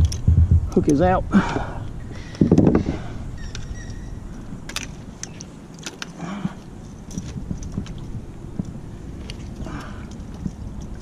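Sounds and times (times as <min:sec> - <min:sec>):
fishing gear clicks and knocks: 0:00.0 - 0:02.8, 0:03.4 - 0:11.0
steady low rumble: 0:00.0 - 0:11.0.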